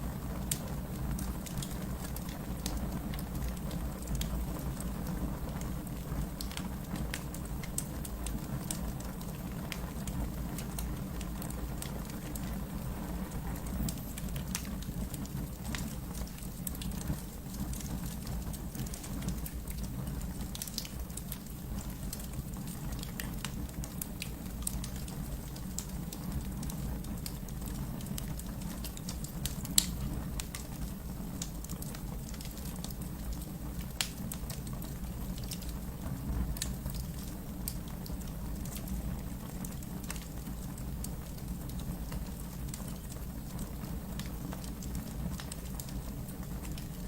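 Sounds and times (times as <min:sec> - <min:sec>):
fire crackling and popping: 0:00.0 - 0:47.0
fire flames rumbling: 0:00.0 - 0:47.0.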